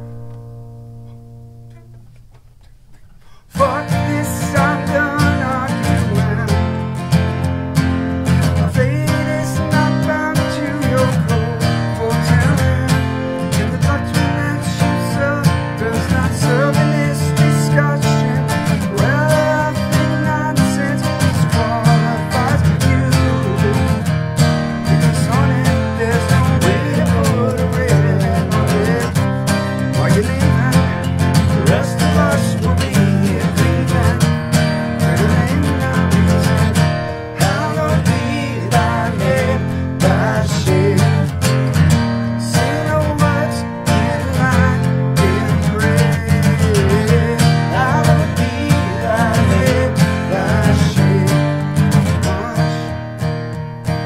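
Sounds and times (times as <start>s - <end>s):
acoustic guitars strummed: 0.0s - 54.0s
man singing: 3.5s - 7.1s, 8.3s - 53.2s.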